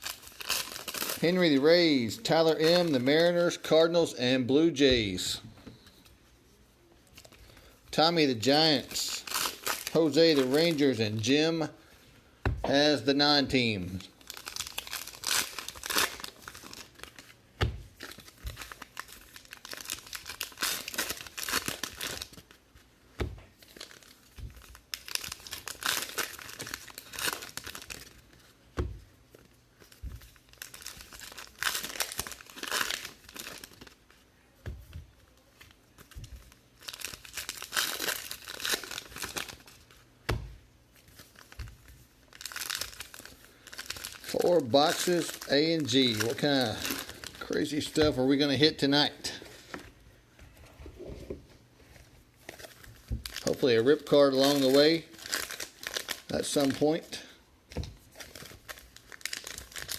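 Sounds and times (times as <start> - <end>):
plastic wrapping crinkling and tearing: 0.0 - 3.6, 8.2 - 11.3, 13.4 - 22.6, 23.5 - 28.6, 29.3 - 40.0, 40.9 - 49.9, 52.0 - 59.9.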